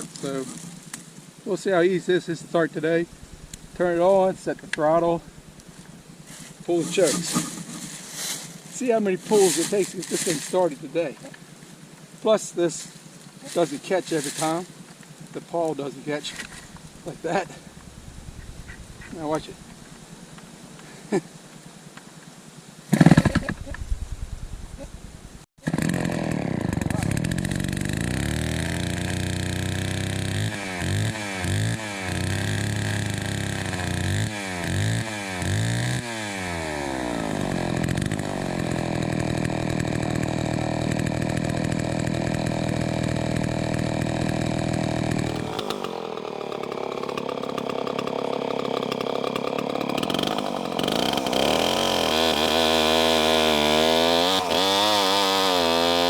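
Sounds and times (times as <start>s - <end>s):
chainsaw engine running: 0.0s - 21.2s, 22.9s - 56.0s.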